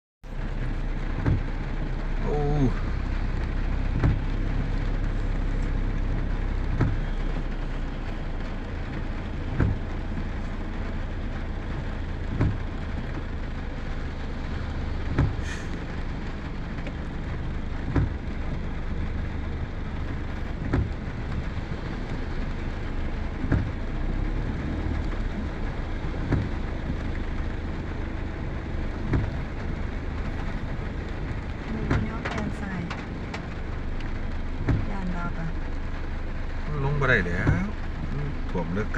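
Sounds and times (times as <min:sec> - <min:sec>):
engine running low rumble: 0:00.2 - 0:38.9
heavy rain on a vehicle: 0:00.2 - 0:38.9.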